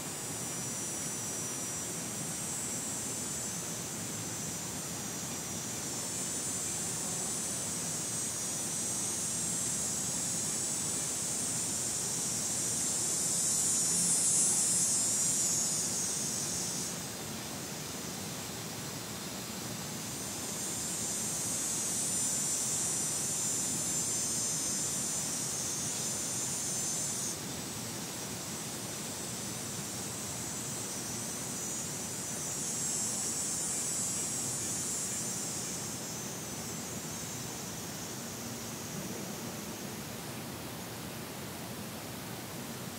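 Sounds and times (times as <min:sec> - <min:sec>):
cicada buzzing: 0:00.0 - 0:42.9.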